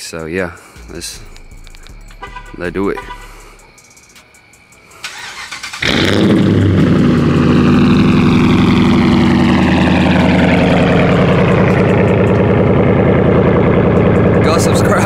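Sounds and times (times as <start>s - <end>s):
car engine starting and idling: 0.8s - 15.0s
high engine whine: 0.8s - 15.0s.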